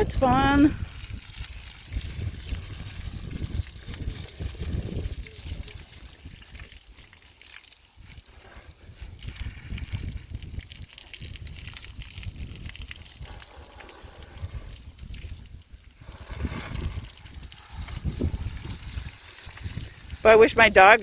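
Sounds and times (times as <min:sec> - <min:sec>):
hose spraying water: 0:00.0 - 0:21.0.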